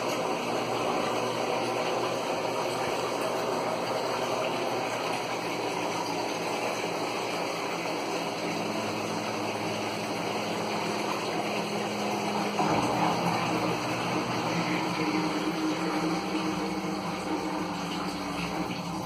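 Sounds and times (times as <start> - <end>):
water rushing into washing machine: 0.0 - 19.0.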